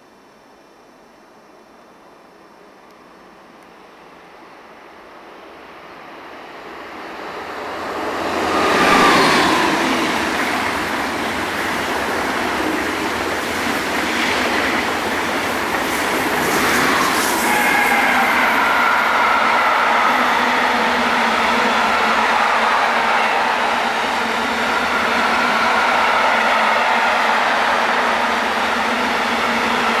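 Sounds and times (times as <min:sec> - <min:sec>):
train whine: 0:00.0 - 0:30.0
high-speed train passing: 0:01.1 - 0:30.0.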